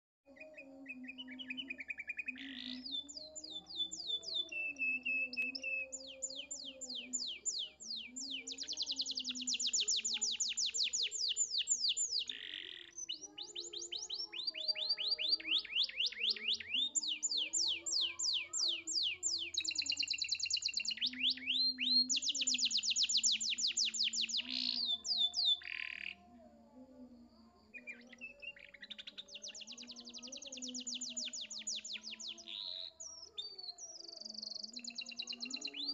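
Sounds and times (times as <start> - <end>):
canary singing trills: 0.3 - 26.3, 27.2 - 35.9.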